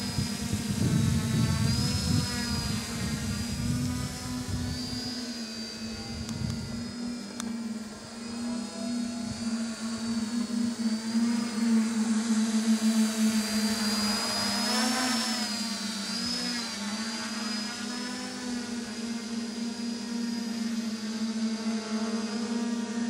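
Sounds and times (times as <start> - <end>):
model airplane motor whining: 0.0 - 23.0.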